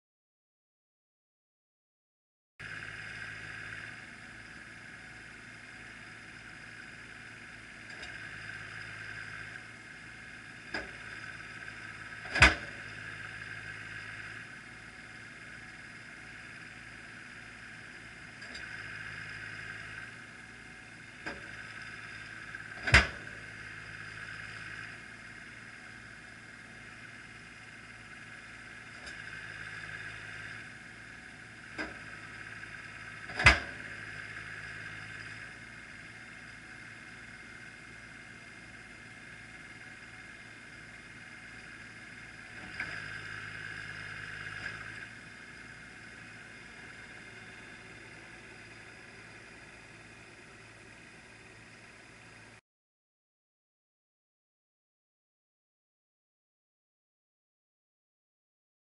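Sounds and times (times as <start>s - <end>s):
machine engine running: 2.6s - 52.6s.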